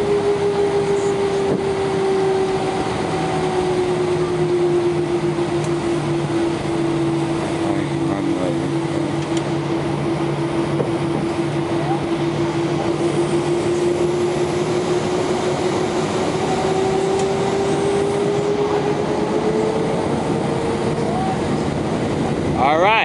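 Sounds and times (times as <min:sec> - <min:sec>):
jet engine hum and whine: 0:00.0 - 0:23.0.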